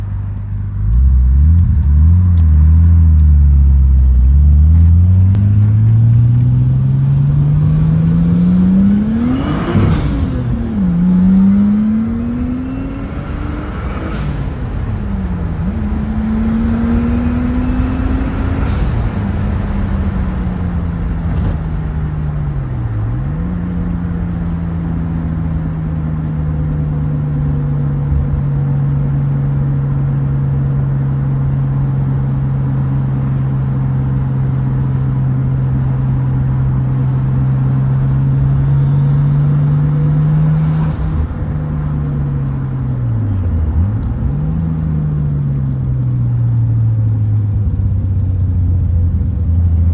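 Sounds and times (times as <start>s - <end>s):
car engine running while driving: 0.0s - 49.9s.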